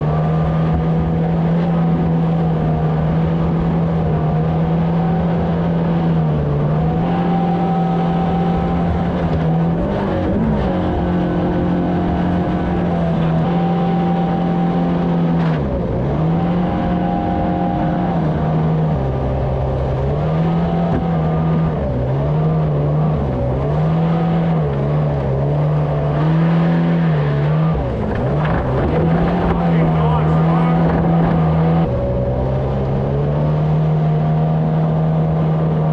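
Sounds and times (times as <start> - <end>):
jet boat engine running: 0.0 - 35.9.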